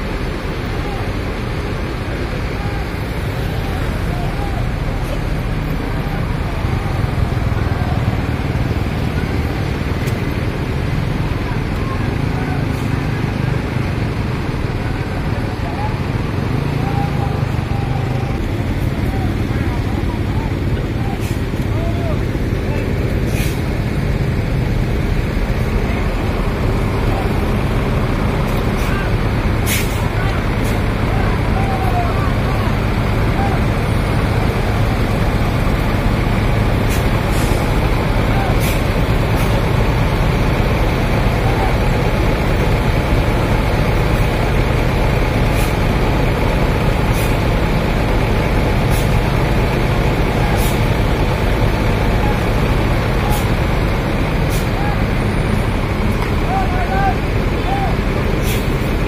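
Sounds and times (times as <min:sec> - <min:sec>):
diesel bus engine rumbling: 0:00.0 - 0:59.0.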